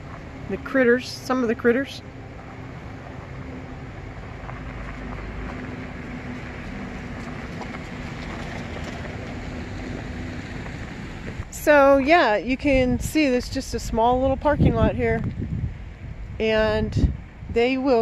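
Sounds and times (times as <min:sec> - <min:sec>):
distant traffic rumble: 0:00.0 - 0:18.0.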